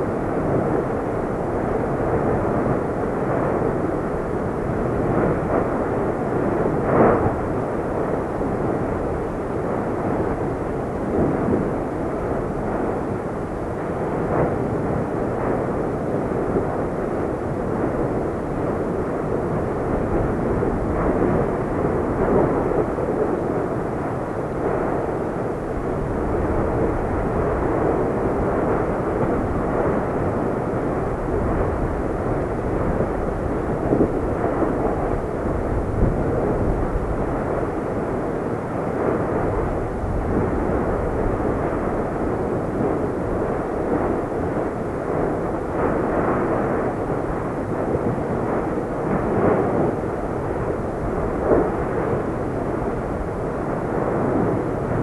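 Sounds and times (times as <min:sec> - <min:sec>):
lava rushing roar: 0:00.0 - 0:55.0.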